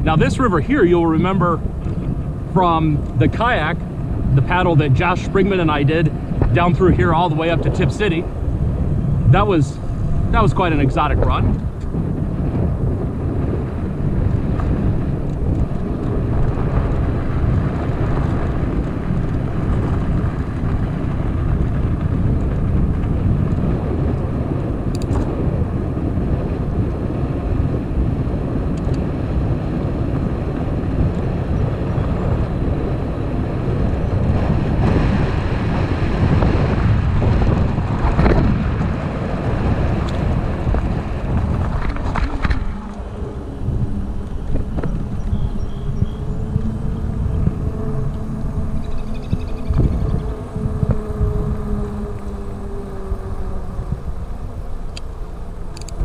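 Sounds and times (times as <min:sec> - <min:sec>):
bicycle tyre noise: 0:00.0 - 0:56.0
wind rush on microphone: 0:00.0 - 0:56.0.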